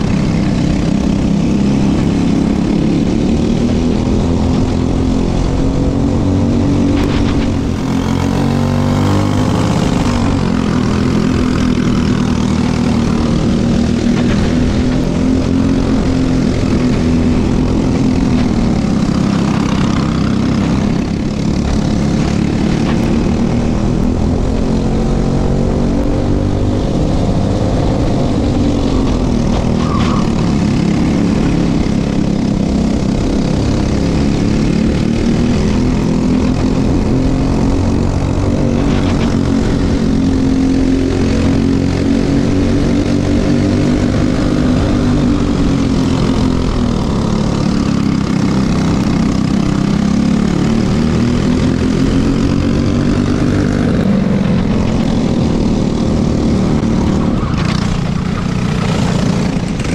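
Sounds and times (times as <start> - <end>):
kart engine running: 0.0 - 59.9.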